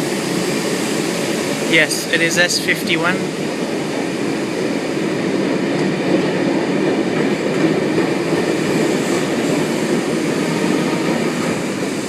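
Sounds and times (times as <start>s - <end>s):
electric train running: 0.0s - 12.0s.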